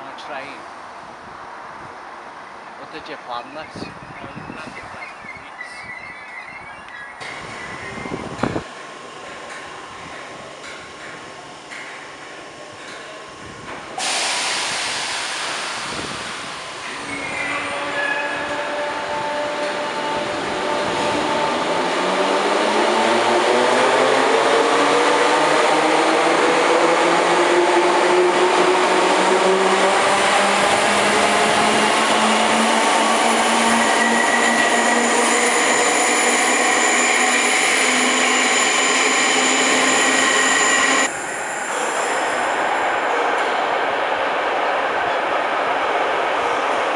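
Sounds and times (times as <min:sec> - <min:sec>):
train wheel and rail noise: 0:00.0 - 0:46.9.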